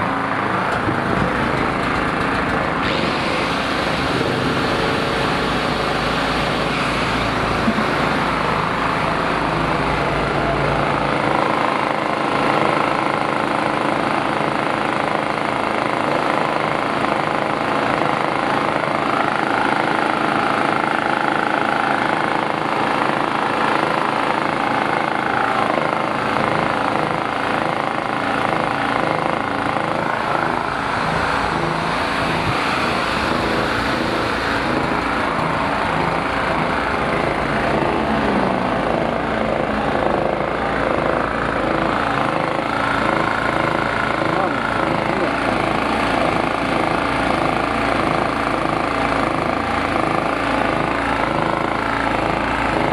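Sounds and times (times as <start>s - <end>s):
petrol generator running: 0.0s - 52.9s.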